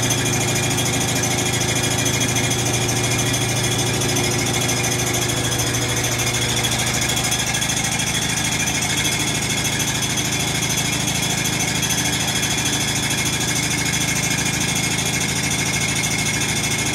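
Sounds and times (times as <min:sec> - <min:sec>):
washing machine spin rattling hum: 0:00.0 - 0:16.9.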